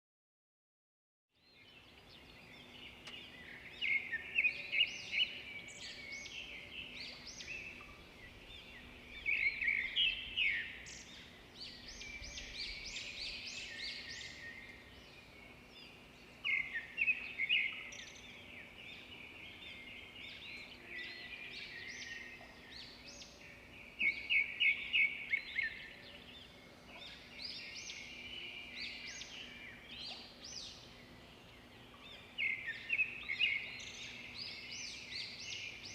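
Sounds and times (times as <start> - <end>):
flock of birds chirping: 1.4 - 35.9.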